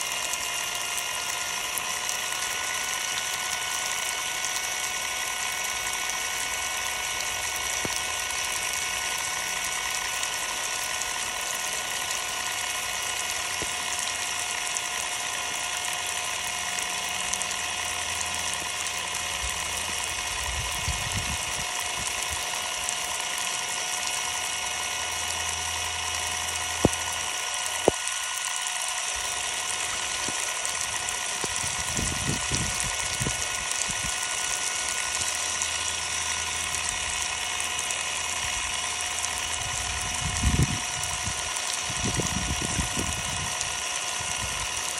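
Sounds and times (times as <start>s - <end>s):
impact driver motor running: 0.0s - 44.9s
sharp clicks: 0.0s - 44.9s.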